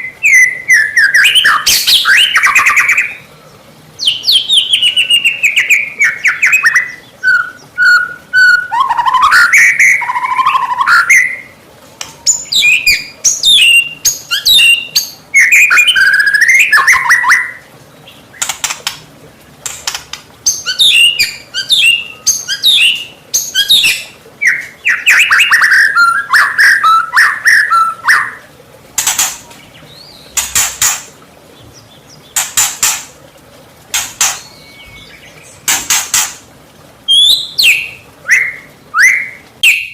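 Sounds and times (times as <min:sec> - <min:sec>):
songbird singing: 0:00.0 - 0:33.2, 0:33.9 - 0:39.9.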